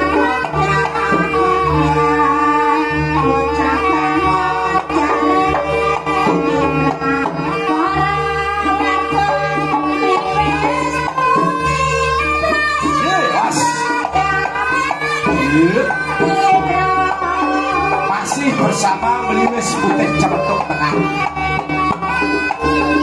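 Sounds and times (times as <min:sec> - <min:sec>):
hand drums: 0:00.0 - 0:23.0
held steady note: 0:00.0 - 0:23.0.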